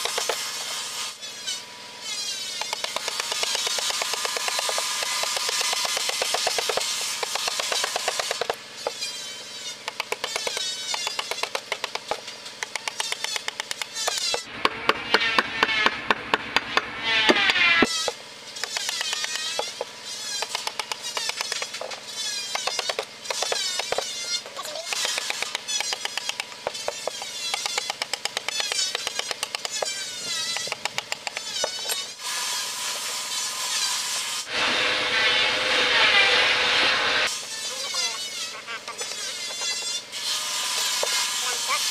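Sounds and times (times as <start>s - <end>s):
tool rasping across wood: 0.0s - 14.5s, 17.1s - 41.9s.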